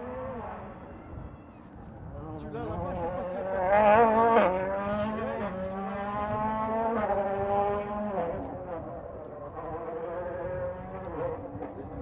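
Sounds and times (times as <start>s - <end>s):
turbocharged engine accelerating hard: 0.0s - 1.3s, 2.1s - 12.0s.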